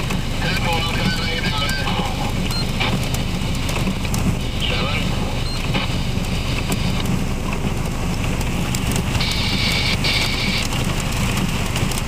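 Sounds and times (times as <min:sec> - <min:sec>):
hailstones ticking on a car: 0:00.0 - 0:12.0
heavy rain on a car: 0:00.0 - 0:12.0.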